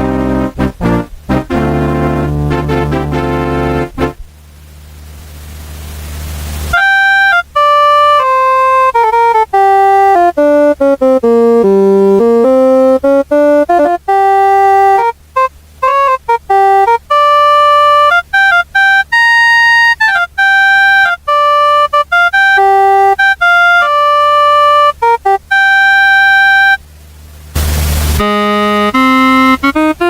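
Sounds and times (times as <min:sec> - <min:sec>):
electronic keyboard melody: 0:00.0 - 0:04.3, 0:06.7 - 0:26.8, 0:28.2 - 0:30.0.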